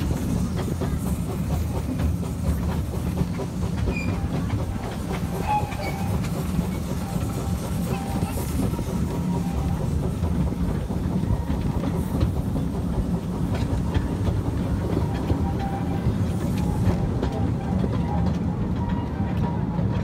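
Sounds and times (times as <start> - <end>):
train wheels rumbling on track: 0.0 - 20.0
wheels clicking over rail joints: 0.0 - 20.0.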